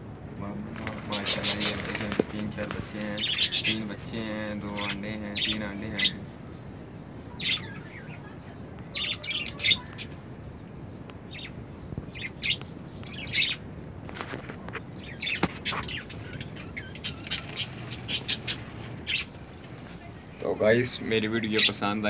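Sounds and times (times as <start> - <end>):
budgerigars chirping: 0.8 - 10.6, 11.3 - 13.7, 14.6 - 22.0.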